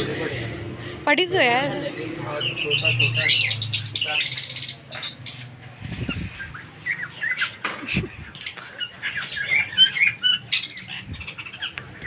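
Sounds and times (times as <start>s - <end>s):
parakeets chirping and squawking: 0.0s - 12.0s.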